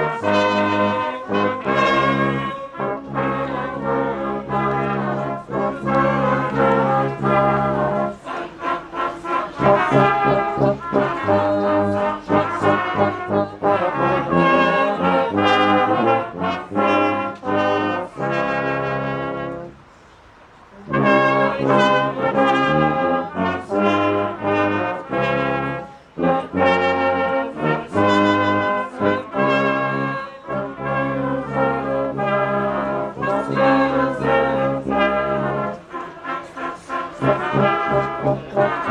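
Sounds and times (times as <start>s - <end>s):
brass band playing a carol: 0.0s - 38.9s.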